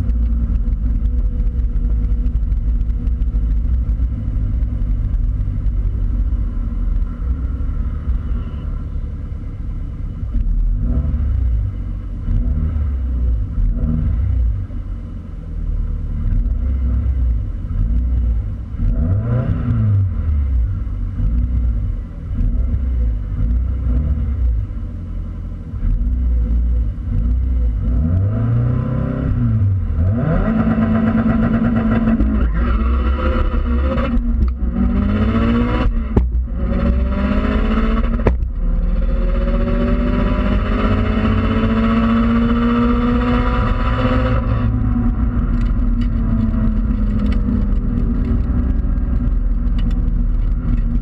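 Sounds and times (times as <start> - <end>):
car engine accelerating hard: 0.0 - 51.0.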